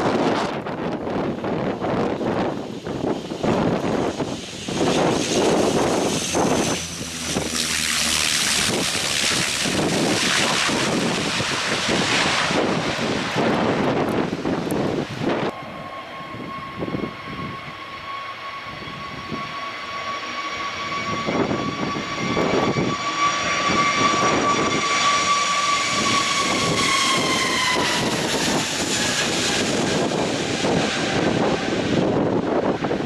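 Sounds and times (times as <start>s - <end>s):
airliner engine whine passing: 0.0s - 33.0s
wind on microphone: 0.0s - 33.0s.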